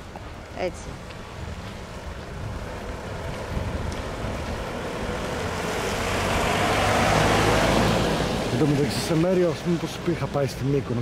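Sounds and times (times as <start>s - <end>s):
bus engine rumble: 0.0s - 11.0s
tyres hissing on wet road: 0.0s - 11.0s.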